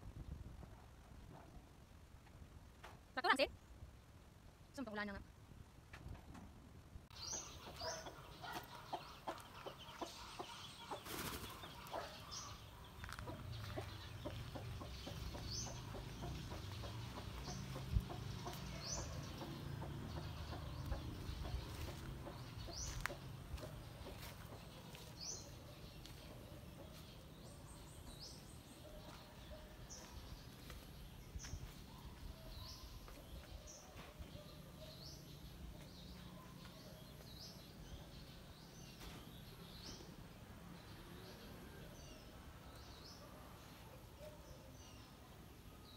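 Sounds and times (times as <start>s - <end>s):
low background noise: 0.0s - 45.9s
chickens chirping: 7.1s - 45.2s.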